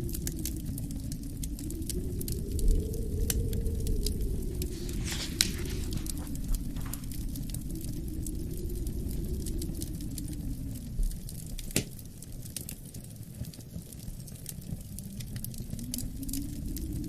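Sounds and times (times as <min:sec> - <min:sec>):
fire popping: 0:00.0 - 0:17.0
low rumble of wind: 0:00.0 - 0:17.0
wood fire crackling: 0:00.0 - 0:17.0.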